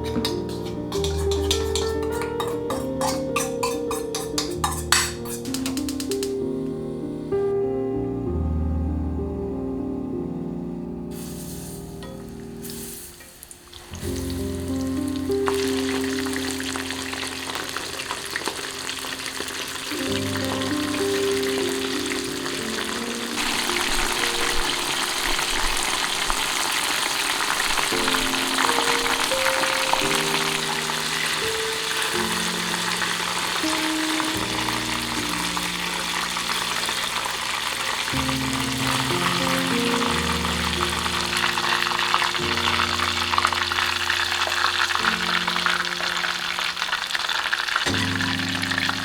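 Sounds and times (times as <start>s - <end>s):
food sizzling in hot oil: 0.0s - 7.2s, 11.1s - 49.0s
soft background music: 0.0s - 47.2s, 47.9s - 49.0s.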